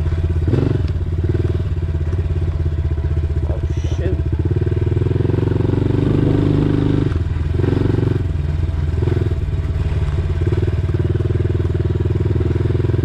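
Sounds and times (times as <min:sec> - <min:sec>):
dirt bike engine revving: 0:00.0 - 0:02.5, 0:03.4 - 0:13.0.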